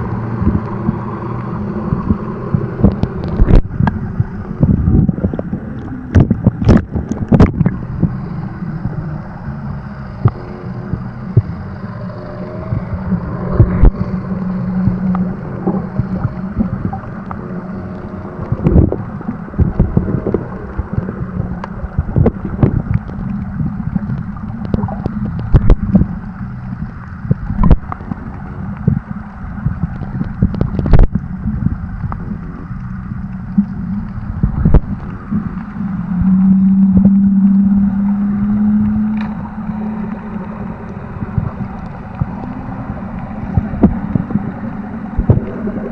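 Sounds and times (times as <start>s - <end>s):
boat motor droning: 0.0s - 45.9s
muffled underwater rumble: 0.0s - 45.9s.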